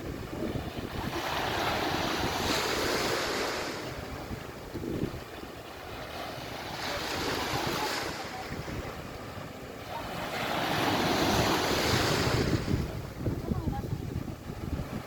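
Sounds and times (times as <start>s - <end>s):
wind buffeting microphone: 0.0s - 9.4s, 10.4s - 15.0s
sea waves on a beach: 0.0s - 15.0s.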